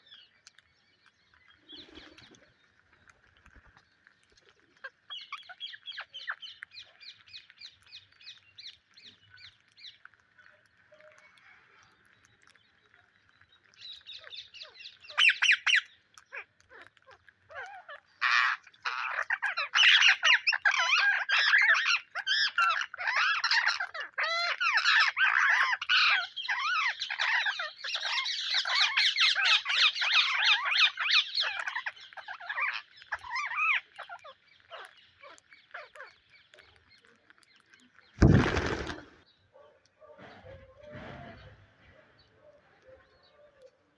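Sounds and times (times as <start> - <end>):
parakeets chattering and screeching: 1.4 - 37.8.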